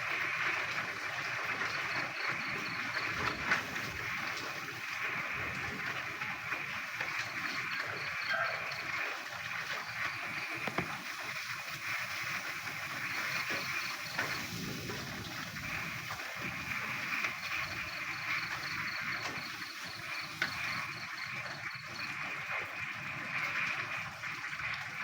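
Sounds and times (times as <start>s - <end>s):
rain falling: 0.0s - 25.0s
frogs croaking in chorus: 0.2s - 24.0s.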